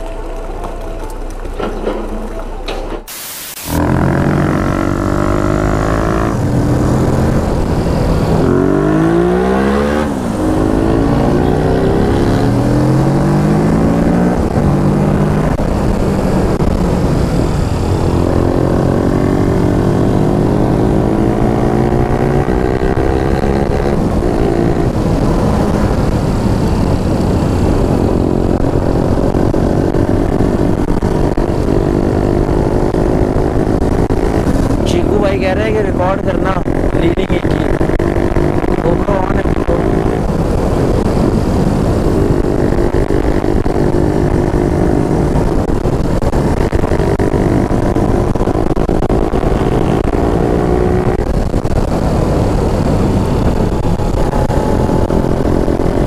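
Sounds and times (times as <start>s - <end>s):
motorcycle engine revving: 3.6s - 56.0s.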